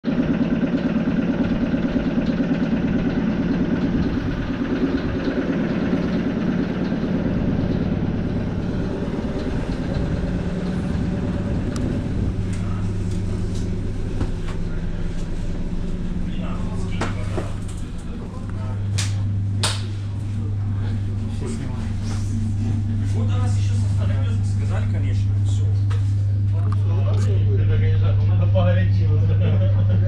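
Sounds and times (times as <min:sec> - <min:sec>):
electric train equipment humming: 0:00.0 - 0:30.0.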